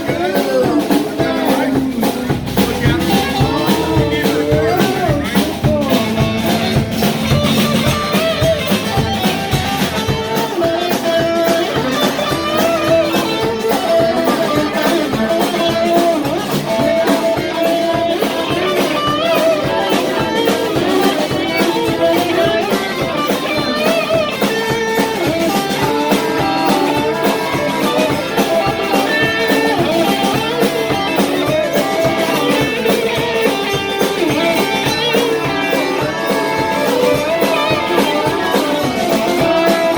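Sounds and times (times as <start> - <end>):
drums with steady beat: 0.0 - 39.9
electric guitar: 0.0 - 39.9.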